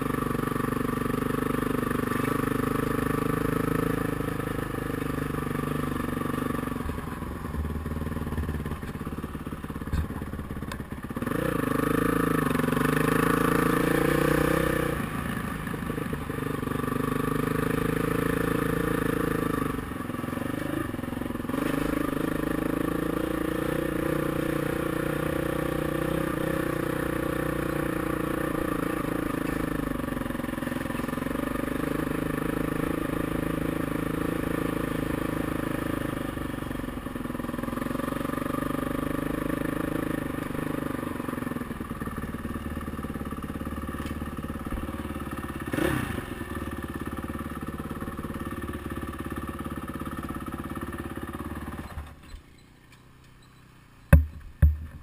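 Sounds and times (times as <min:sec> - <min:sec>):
dirt bike engine running: 0:00.0 - 0:52.2, 0:54.1 - 0:55.0.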